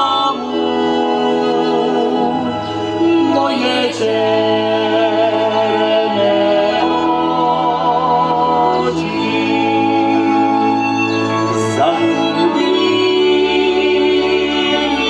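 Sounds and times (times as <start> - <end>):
women and man singing folk song: 0.0 - 15.0.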